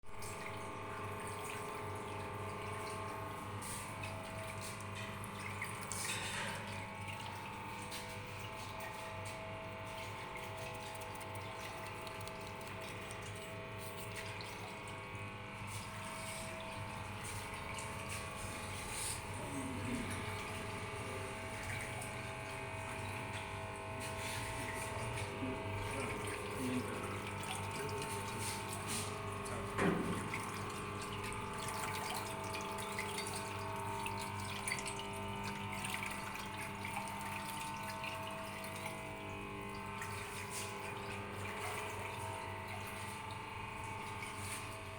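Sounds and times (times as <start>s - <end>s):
pump humming: 0.0s - 44.9s
water flowing through channel: 0.0s - 44.9s.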